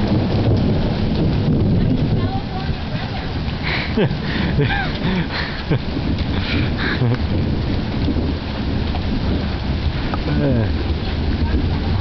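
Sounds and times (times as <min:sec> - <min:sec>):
heavy rain falling: 0:00.0 - 0:12.0
thunder rumbling: 0:00.0 - 0:12.0.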